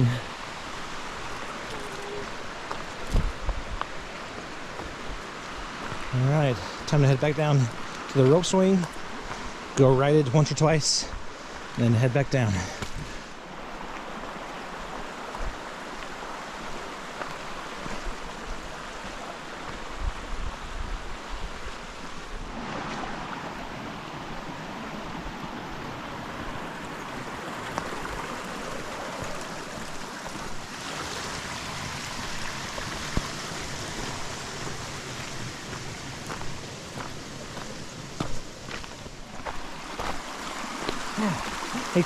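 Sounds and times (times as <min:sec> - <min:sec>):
flowing creek water: 0:00.0 - 0:42.0.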